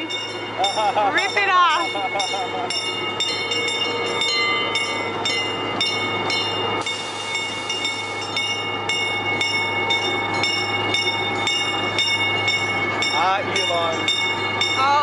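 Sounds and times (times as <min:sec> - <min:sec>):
miniature train humming: 0:00.0 - 0:15.0
train wheel clicks: 0:00.0 - 0:15.0.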